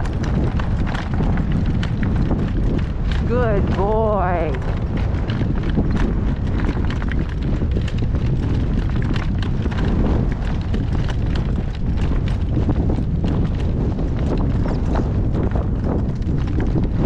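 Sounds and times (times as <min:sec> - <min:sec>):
horse hooves clip-clopping: 0:00.0 - 0:17.0
wind buffeting microphone: 0:00.0 - 0:17.0.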